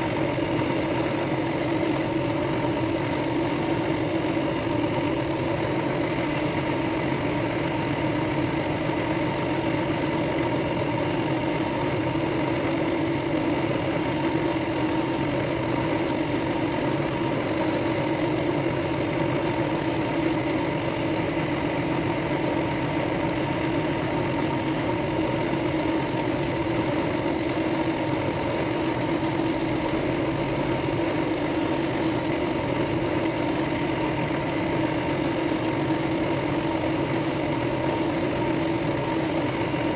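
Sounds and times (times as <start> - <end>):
drill press motor humming: 0.0 - 39.9.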